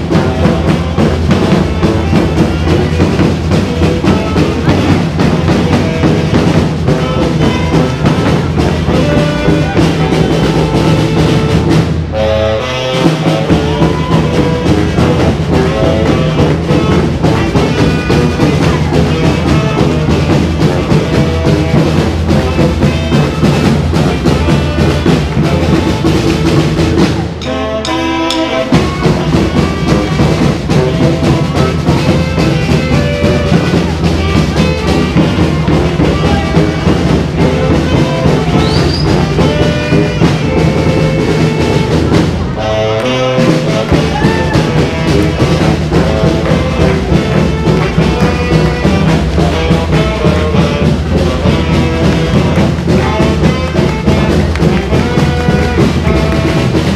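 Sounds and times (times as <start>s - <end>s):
upbeat brass and drums music: 0.0s - 56.9s.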